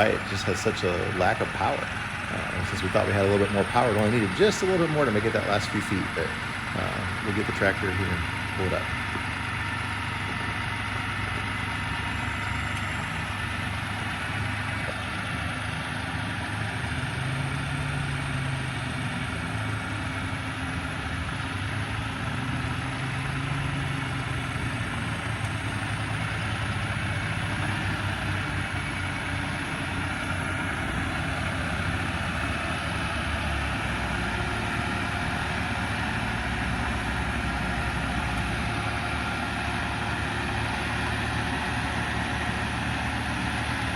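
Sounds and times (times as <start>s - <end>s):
heavy engine running: 0.0s - 43.9s.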